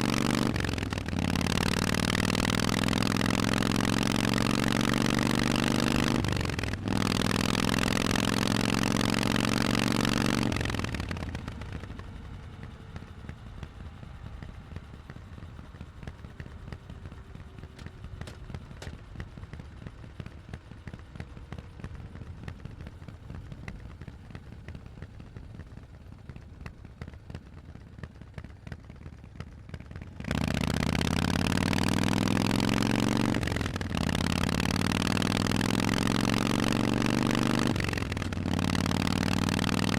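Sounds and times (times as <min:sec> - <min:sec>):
motorcycle engine revving: 0:00.0 - 0:25.4, 0:29.7 - 0:39.9.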